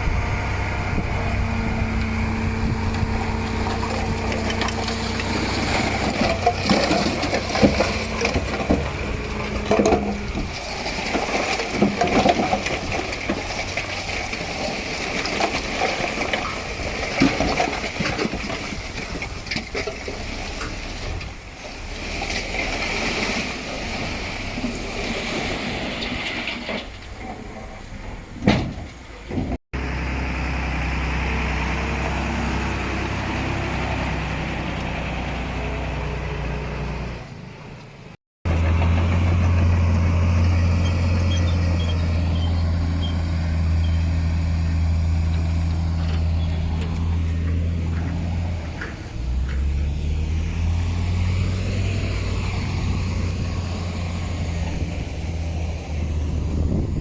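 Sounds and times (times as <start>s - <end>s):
heavy diesel engine running: 0.0s - 25.8s, 29.8s - 57.0s.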